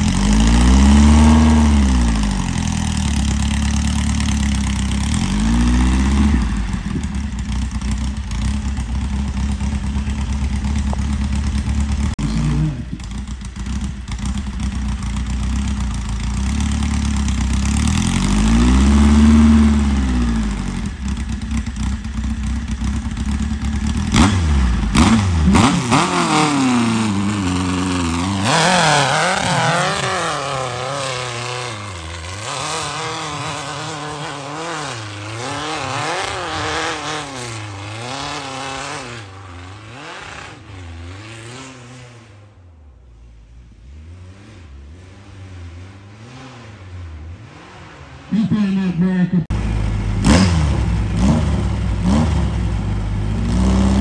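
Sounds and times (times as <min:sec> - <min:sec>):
buggy engine revving: 0:00.0 - 0:54.0.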